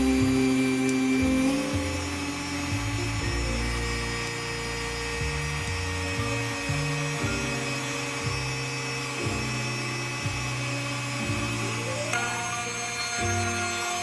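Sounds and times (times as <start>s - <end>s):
bass line: 0.0s - 14.0s.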